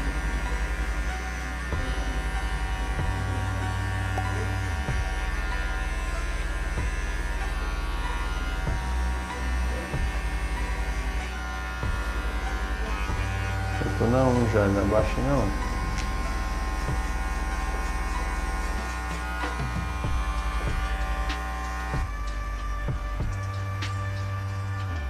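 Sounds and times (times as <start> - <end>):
electric hair clipper buzzing: 0.0 - 25.0.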